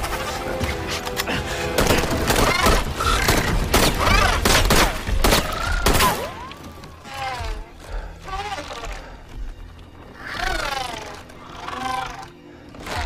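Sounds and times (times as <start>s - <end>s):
dramatic music: 0.0s - 13.0s.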